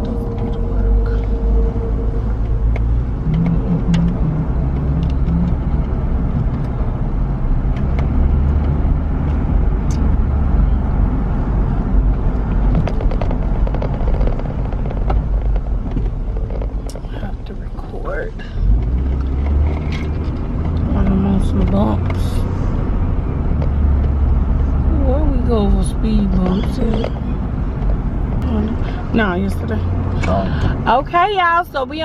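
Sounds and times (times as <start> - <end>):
engine and tyre rumble: 0.0 - 32.0.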